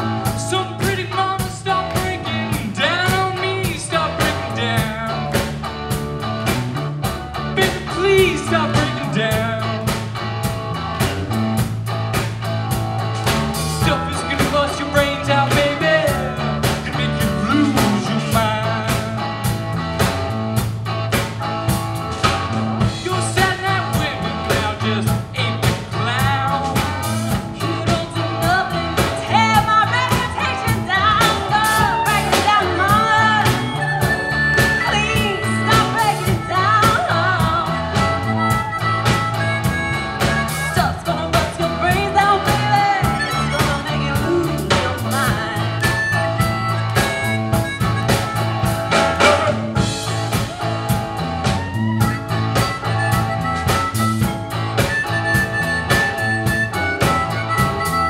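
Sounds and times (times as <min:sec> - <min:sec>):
person singing: 0:00.0 - 0:05.6, 0:07.6 - 0:10.1, 0:13.2 - 0:19.6, 0:22.8 - 0:58.0
blues-rock band playing: 0:00.0 - 0:58.0
harmonica: 0:00.0 - 0:58.0.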